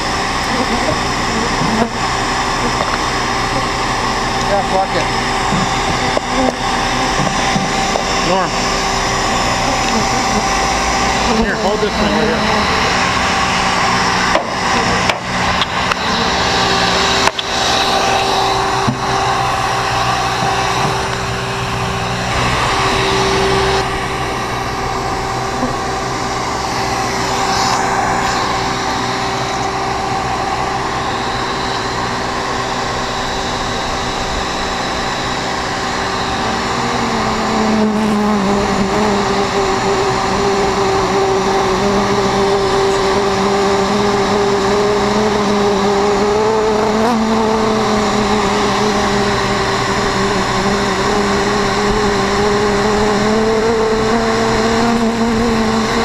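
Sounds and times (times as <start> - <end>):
vacuum motor hum: 0.0 - 56.0.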